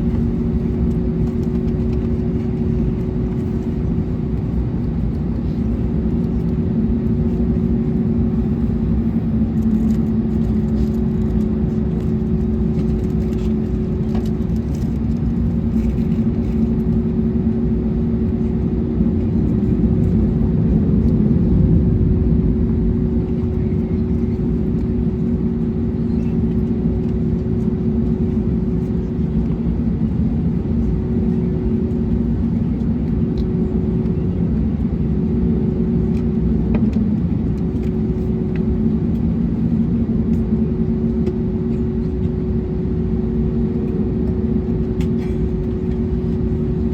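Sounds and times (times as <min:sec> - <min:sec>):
aircraft cabin rumble: 0:00.0 - 0:46.9.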